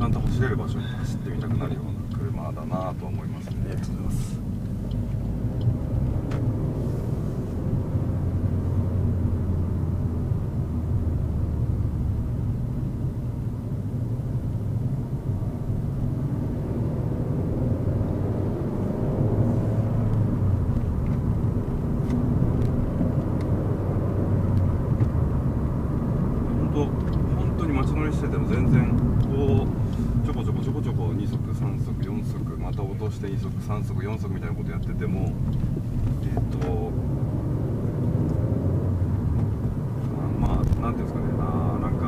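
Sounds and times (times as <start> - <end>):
car engine from inside cabin: 0.0 - 42.0
road noise: 0.0 - 42.0.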